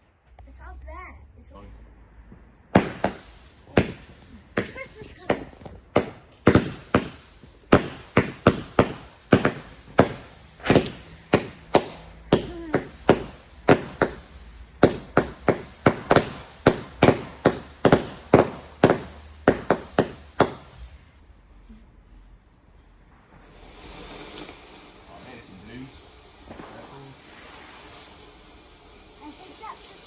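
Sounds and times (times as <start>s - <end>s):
firework bangs: 2.2s - 21.2s, 22.6s - 30.0s.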